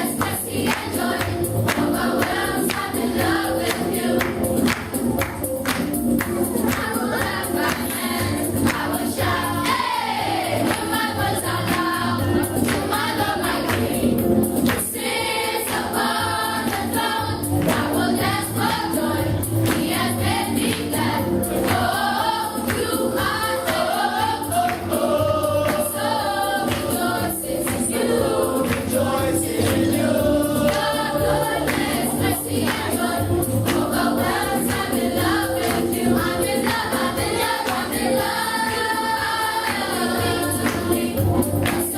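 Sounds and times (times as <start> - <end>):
choir singing gospel music: 0.0 - 41.9
instrumental accompaniment with beat: 0.0 - 41.9.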